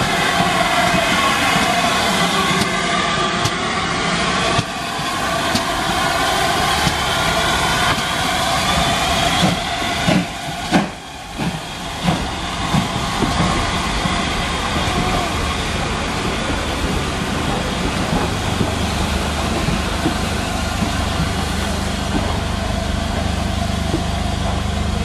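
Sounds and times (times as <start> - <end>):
train rolling past: 0.0 - 25.0.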